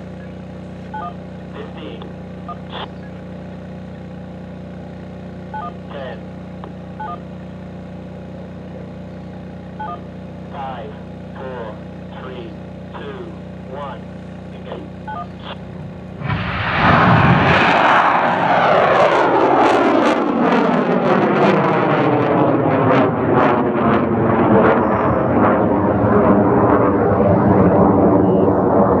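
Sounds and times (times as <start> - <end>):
rocket engine roaring: 0.0 - 7.5, 8.5 - 29.0.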